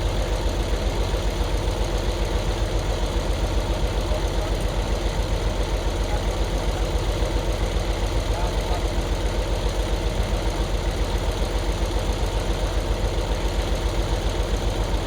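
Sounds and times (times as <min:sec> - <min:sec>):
dump truck diesel engine idling: 0:00.0 - 0:15.0.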